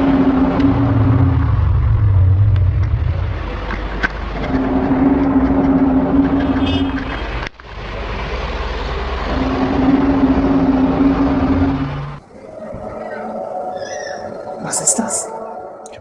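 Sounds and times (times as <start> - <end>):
low droning tone: 0.0 - 16.0
rumbling background: 0.0 - 16.0.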